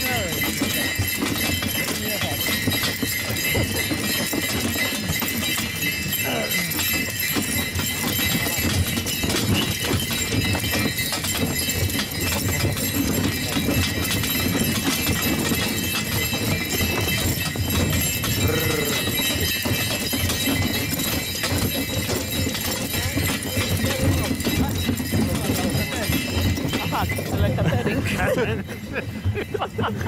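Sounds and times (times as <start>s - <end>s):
horse hooves beating on snow: 0.0s - 30.0s
sleigh runners and harness rattling: 0.0s - 30.0s.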